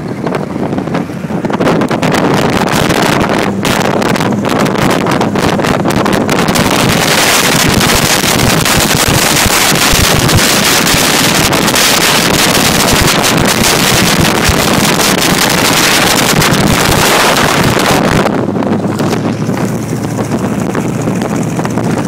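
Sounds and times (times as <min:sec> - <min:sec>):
car engine running: 0:00.0 - 0:22.0
wind buffeting microphone: 0:00.0 - 0:22.0.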